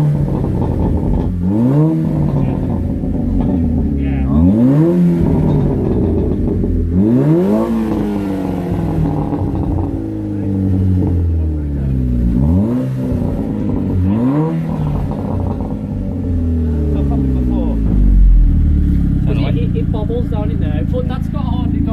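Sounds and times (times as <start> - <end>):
turbo engine revving: 0.0 - 21.9.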